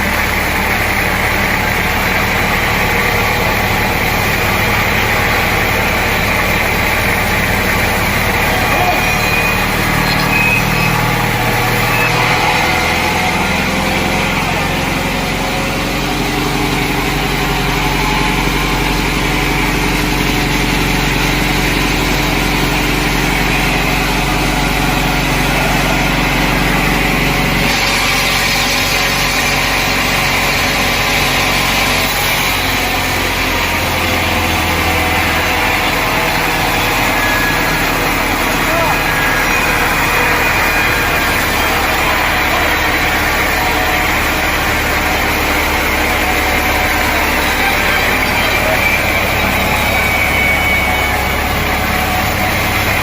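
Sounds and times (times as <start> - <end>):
sawmill machinery droning: 0.0 - 53.0.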